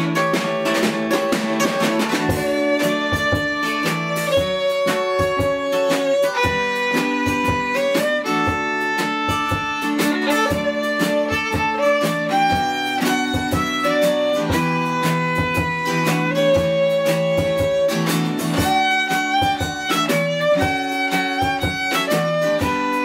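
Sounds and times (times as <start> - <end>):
fiddle bowing a melody: 0.0 - 23.0
strummed acoustic guitar: 0.0 - 23.0.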